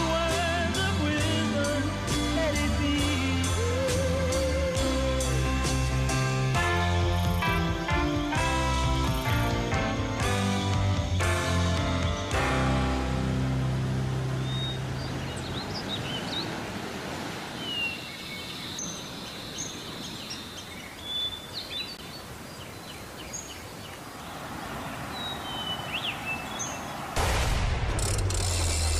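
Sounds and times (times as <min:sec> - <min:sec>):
birds chirping: 0:00.0 - 0:16.8, 0:17.5 - 0:27.2
rushing outdoor ambience: 0:00.0 - 0:28.9.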